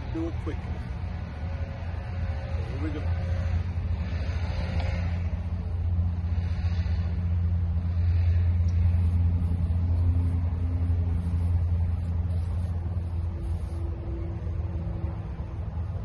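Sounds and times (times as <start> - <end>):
faint hum: 0.0 - 16.0
low engine rumble: 0.0 - 16.0.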